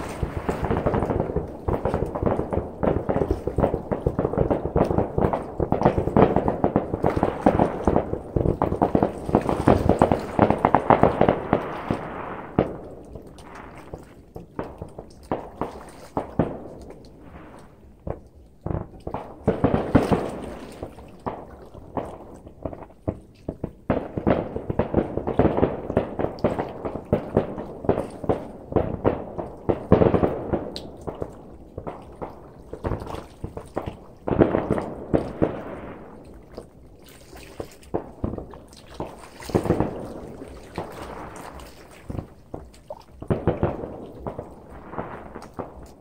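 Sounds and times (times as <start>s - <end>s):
fireworks bangs and crackling pops: 0.0s - 46.0s.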